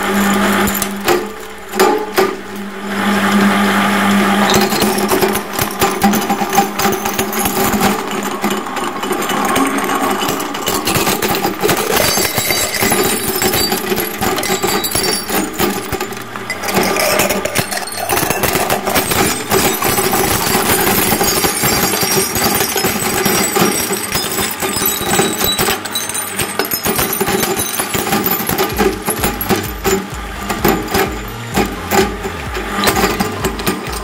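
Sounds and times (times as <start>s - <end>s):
glass crunching in shredder: 0.0s - 3.5s, 4.1s - 34.0s
shredder machine running: 0.0s - 34.0s.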